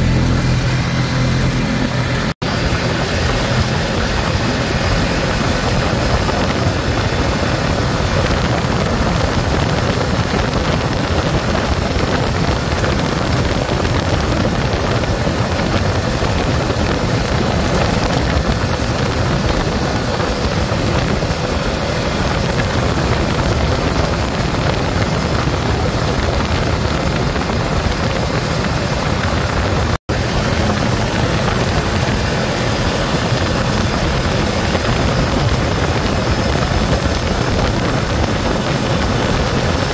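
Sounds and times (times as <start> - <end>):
atv engine running: 0.0 - 39.9
wind rushing on microphone: 0.0 - 39.9.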